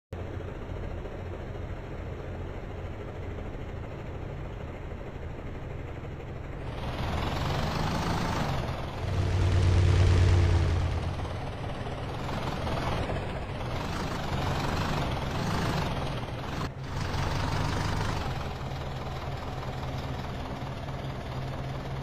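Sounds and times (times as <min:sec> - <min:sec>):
tractor engine humming: 0:00.2 - 0:22.0.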